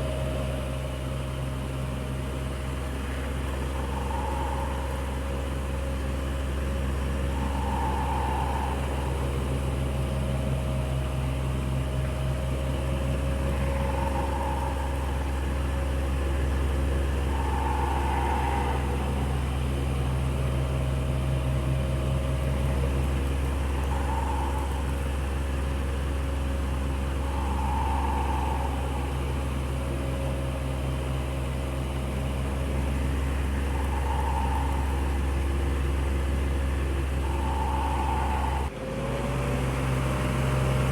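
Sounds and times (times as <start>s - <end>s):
electric fan whirring: 0.0s - 38.8s.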